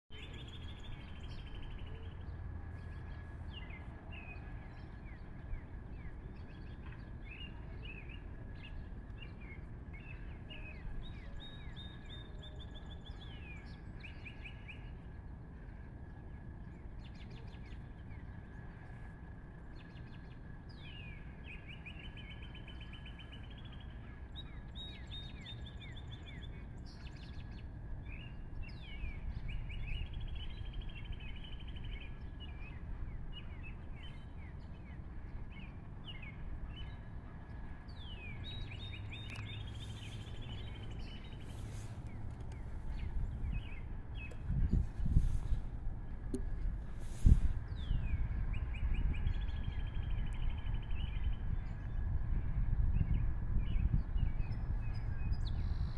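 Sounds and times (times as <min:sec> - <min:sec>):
low outdoor rumble: 0:00.1 - 0:55.9
songbirds chirping and trilling: 0:00.1 - 0:55.9.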